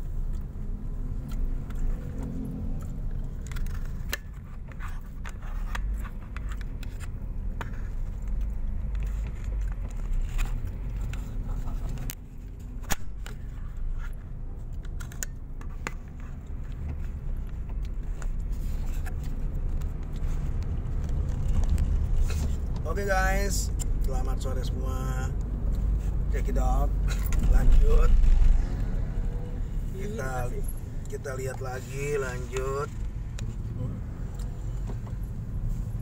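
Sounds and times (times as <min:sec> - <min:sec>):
road and engine rumble in car: 0:00.0 - 0:36.0.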